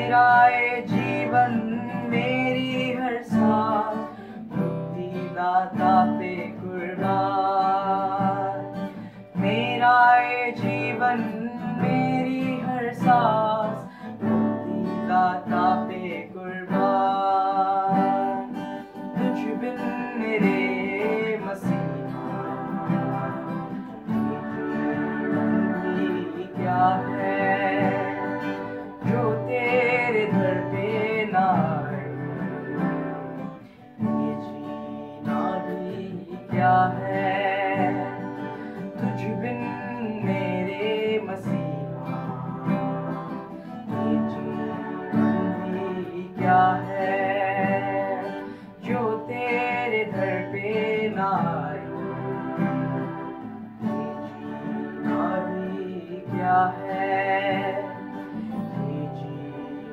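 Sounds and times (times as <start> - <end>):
guitar accompaniment: 0.0 - 59.9
person singing: 0.0 - 59.9.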